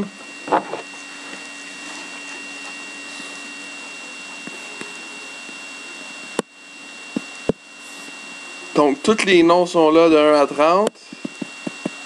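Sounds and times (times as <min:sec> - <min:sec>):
faint high whine: 0:00.0 - 0:12.0
room tone hiss and hum: 0:00.0 - 0:12.0.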